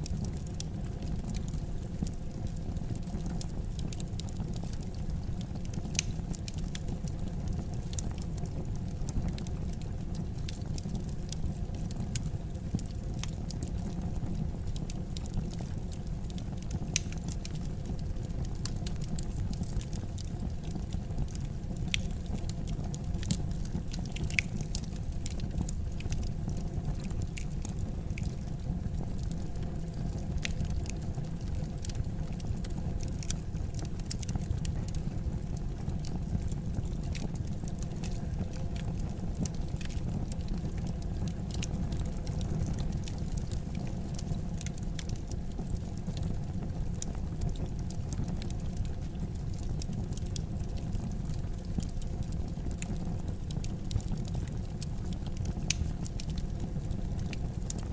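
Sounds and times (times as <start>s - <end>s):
burning logs crackling and popping: 0.0s - 57.9s.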